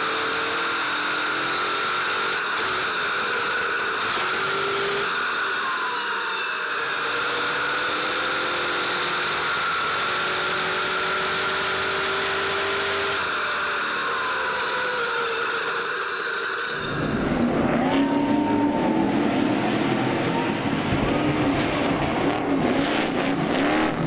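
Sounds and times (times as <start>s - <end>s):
racing truck engine and road noise: 0.0s - 24.0s.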